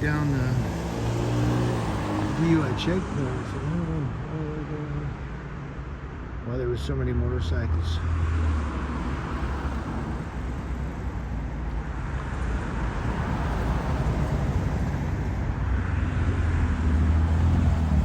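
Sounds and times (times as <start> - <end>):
vehicle engines and tyre noise: 0.0 - 18.0.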